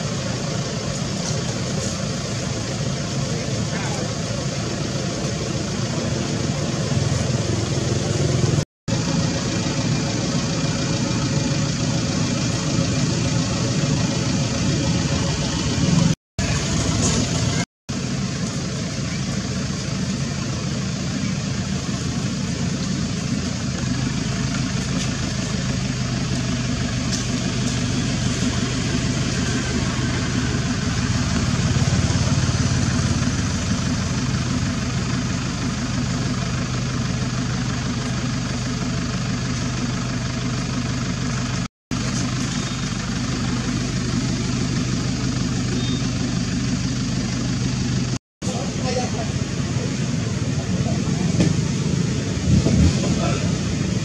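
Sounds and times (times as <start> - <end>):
motor vehicle engine noise: 0.0 - 54.0.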